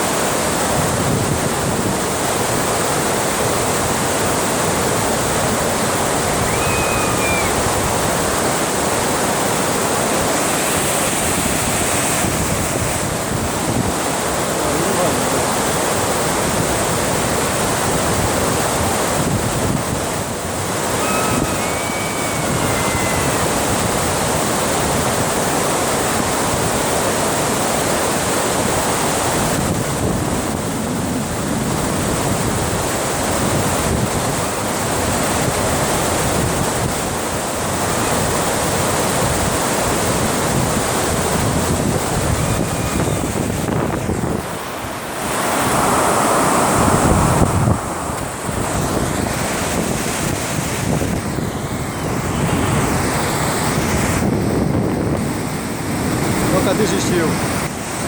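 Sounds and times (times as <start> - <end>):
water rushing: 0.0 - 58.0
wind buffeting microphone: 0.0 - 58.0.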